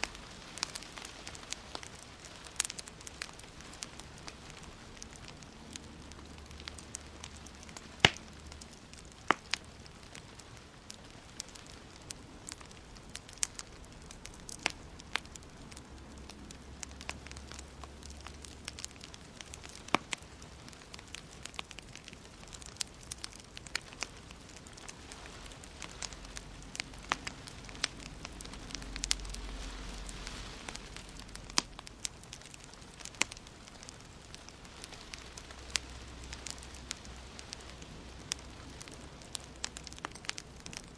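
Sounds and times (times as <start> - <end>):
sharp pops of fire: 0.0 - 40.9
steady fire hiss: 0.0 - 40.9
wood fire crackling: 0.0 - 40.9.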